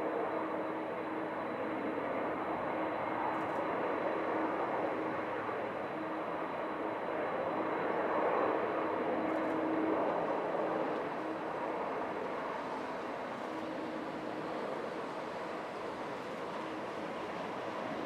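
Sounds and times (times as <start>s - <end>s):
distant jet engines: 0.0s - 18.0s.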